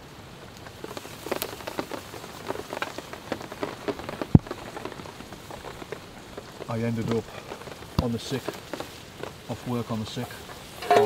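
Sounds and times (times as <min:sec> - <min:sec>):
onions sizzling and popping: 0:00.0 - 0:11.0.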